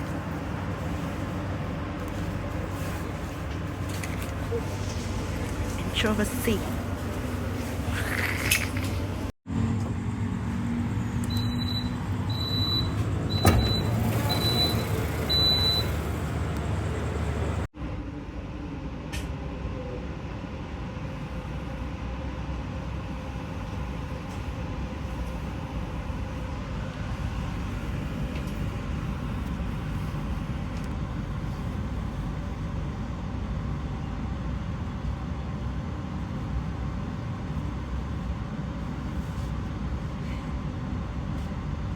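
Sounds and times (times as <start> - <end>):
train carriage rumble and hum: 0.0 - 41.9.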